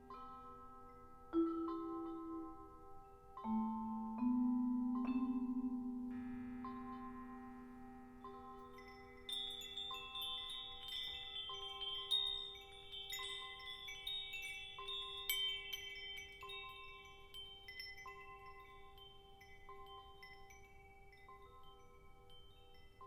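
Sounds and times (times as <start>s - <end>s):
chimes tinkling: 0.0s - 23.0s
ringing vibraphone-like tones: 0.0s - 23.0s.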